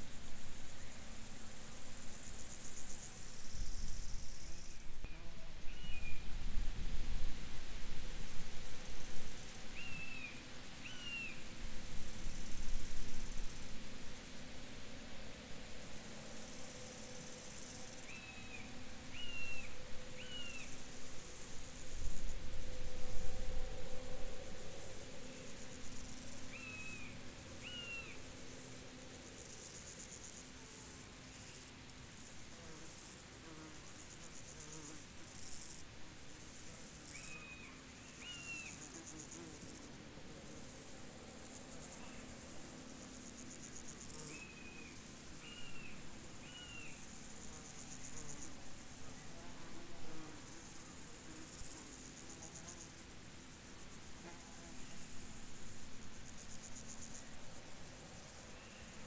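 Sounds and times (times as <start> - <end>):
crickets and insects chirping: 0.0 - 59.0.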